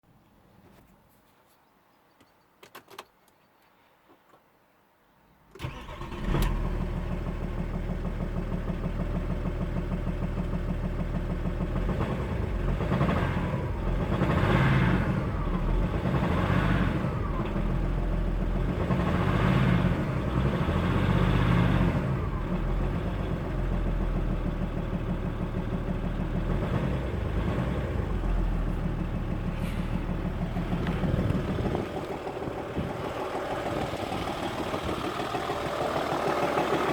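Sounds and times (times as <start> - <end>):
diesel engine cranking and starting: 5.6 - 36.9
engine revving: 5.6 - 36.9.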